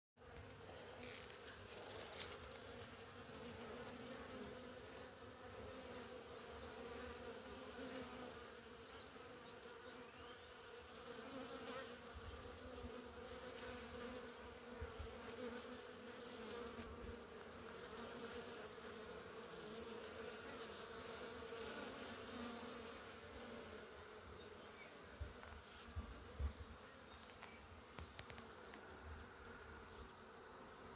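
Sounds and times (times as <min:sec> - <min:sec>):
bees buzzing: 0:00.3 - 0:30.9.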